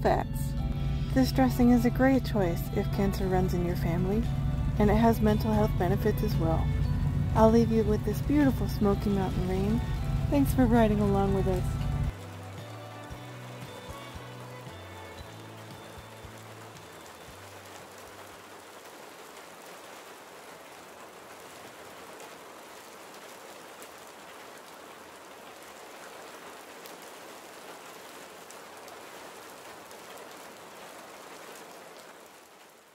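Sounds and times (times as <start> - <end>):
rain pattering on windshield: 1.2 - 32.9.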